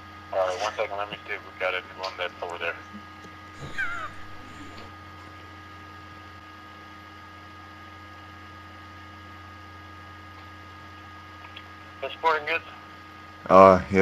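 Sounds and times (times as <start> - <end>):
electrical hum on phone line: 0.0 - 14.0.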